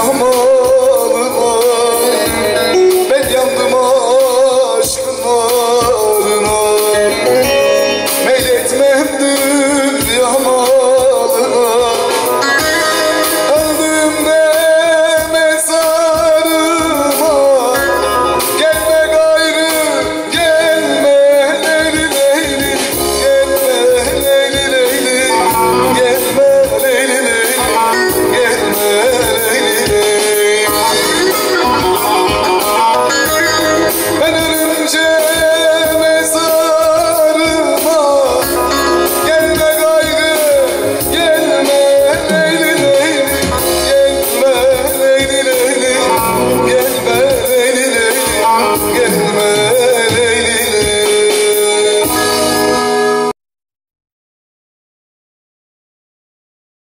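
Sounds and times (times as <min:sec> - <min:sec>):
man singing folk song: 0:00.0 - 0:52.8
electronic keyboard accompaniment: 0:00.0 - 0:53.4.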